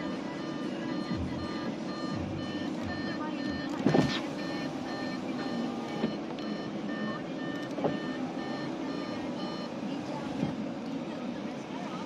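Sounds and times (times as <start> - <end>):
car warning chime beeping: 0.0 - 10.5.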